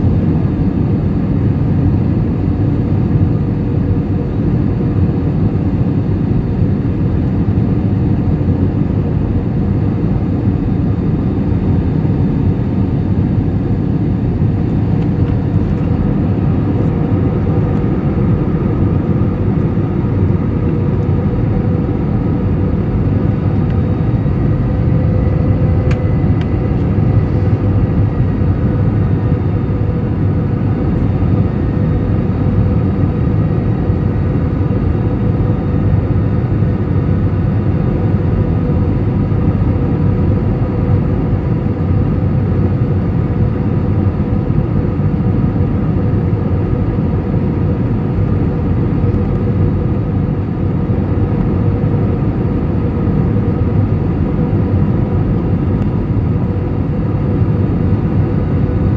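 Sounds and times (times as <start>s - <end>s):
faint steady whine: 0.0s - 58.9s
jet engine cabin drone: 0.0s - 58.9s.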